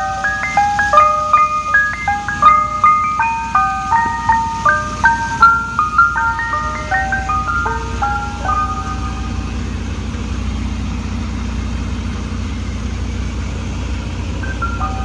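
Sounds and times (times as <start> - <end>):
ice cream truck chime jingle: 0.0 - 12.8, 14.1 - 15.0
truck engine idling: 0.0 - 15.0.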